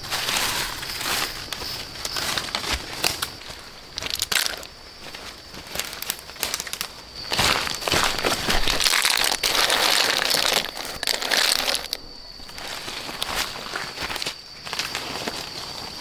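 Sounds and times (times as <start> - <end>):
crinkling and crackling: 0.0 - 16.0.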